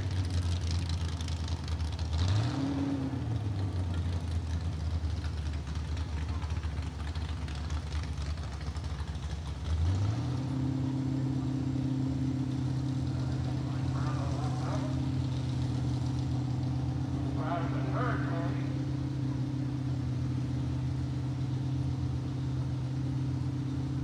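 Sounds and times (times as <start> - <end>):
tractor engine idling and revving: 0.0 - 24.0.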